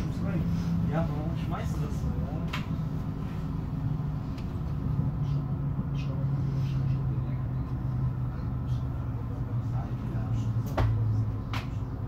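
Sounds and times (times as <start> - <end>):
train drive hum: 0.0 - 12.0
train wheel and rail rumble: 0.0 - 12.0.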